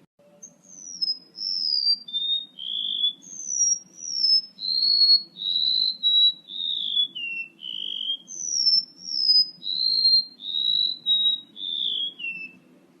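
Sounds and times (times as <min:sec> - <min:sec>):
faint low hum: 0:00.2 - 0:13.0
bird whistled notes: 0:00.3 - 0:12.6.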